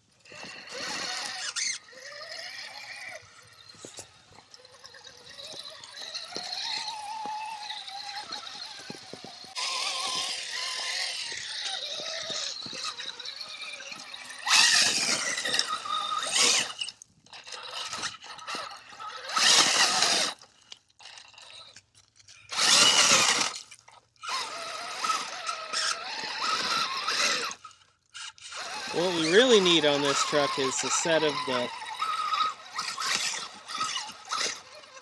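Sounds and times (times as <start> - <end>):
electric motor whine: 0.2 - 20.4, 22.5 - 23.6, 24.2 - 35.0
rock crunching under tyres: 0.2 - 27.6, 28.6 - 35.0.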